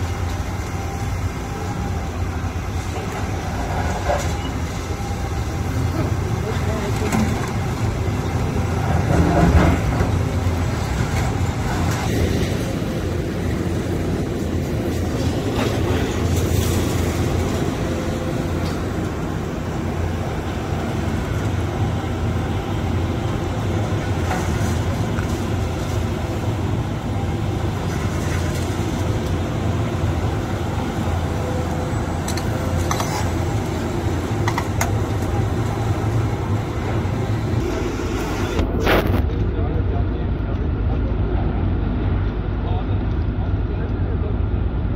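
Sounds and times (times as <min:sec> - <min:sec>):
excavator diesel engines running: 0:00.0 - 0:44.9.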